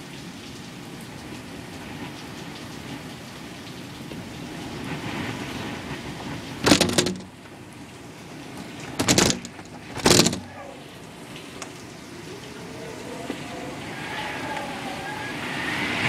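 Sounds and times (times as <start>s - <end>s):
heavy rainstorm: 0.0s - 16.0s.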